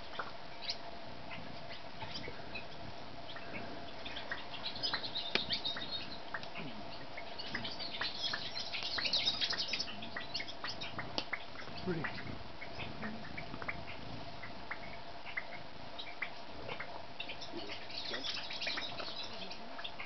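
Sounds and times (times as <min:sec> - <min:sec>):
birds twittering rapidly: 0:00.0 - 0:20.0
small birds chip notes: 0:01.4 - 0:20.0.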